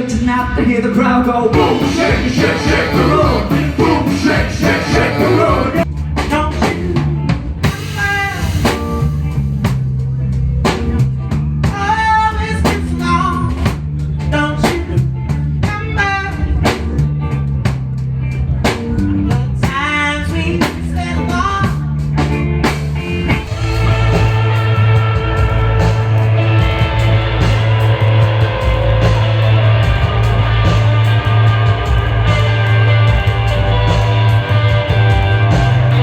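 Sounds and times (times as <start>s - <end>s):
rock band music: 0.0s - 36.0s.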